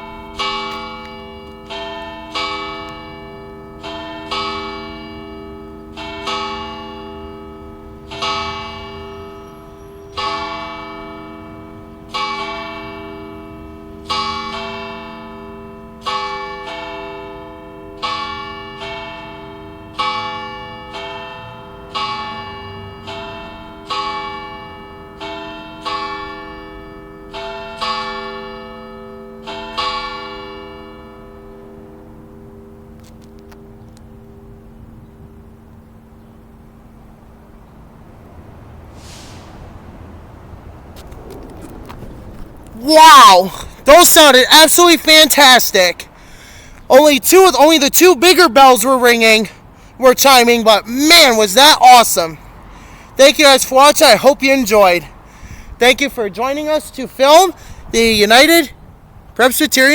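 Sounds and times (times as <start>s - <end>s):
church bells ringing: 0.0s - 38.7s, 42.7s - 58.8s.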